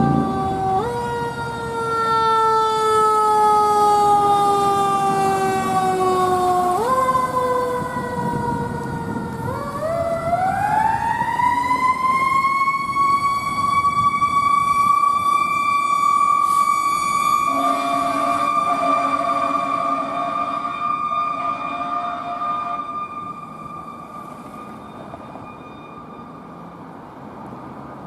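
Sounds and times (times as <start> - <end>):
mechanical siren wailing: 0.0 - 26.8.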